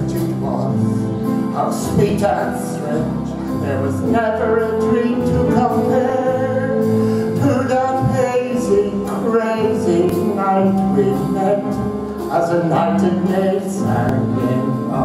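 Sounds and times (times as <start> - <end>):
man singing into microphone: 0.0 - 15.0
musical accompaniment: 0.0 - 15.0.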